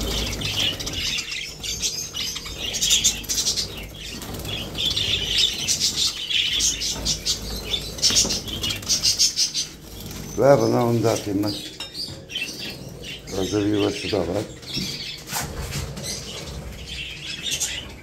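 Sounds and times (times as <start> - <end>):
budgerigars chirping: 0.0 - 18.0
wings fluttering: 0.0 - 18.0.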